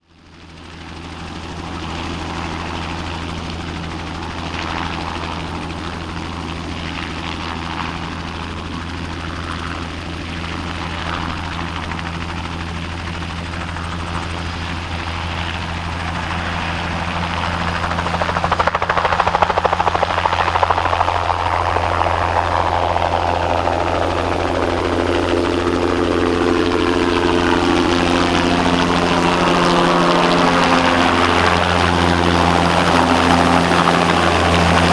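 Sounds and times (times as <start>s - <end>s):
helicopter rotor and turbine whine: 0.0s - 34.9s.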